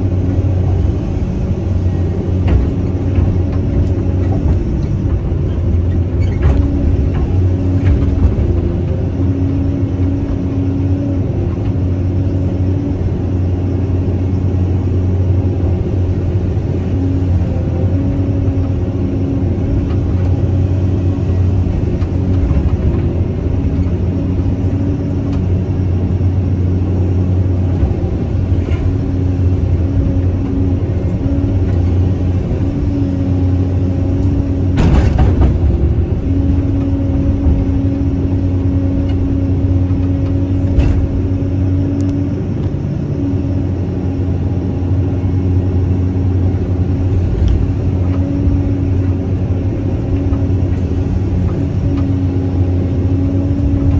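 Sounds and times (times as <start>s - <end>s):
excavator diesel engine running: 0.0s - 53.9s
pitched hum: 0.0s - 53.9s.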